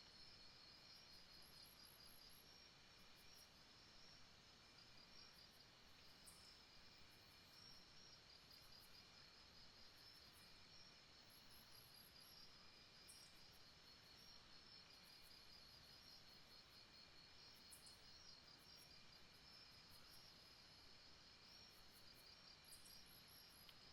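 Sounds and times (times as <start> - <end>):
insects chirping: 0.0 - 23.9
soft steady hiss: 0.0 - 23.9.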